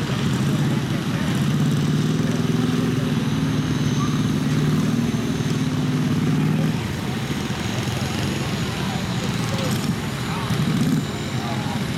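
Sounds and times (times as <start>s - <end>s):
vehicle engine running: 0.0s - 11.9s.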